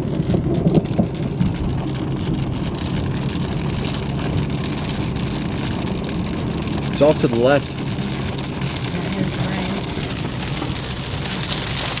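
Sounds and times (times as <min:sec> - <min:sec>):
engine and road hum: 0:00.0 - 0:12.0
raindrops ticking on car: 0:00.0 - 0:12.0.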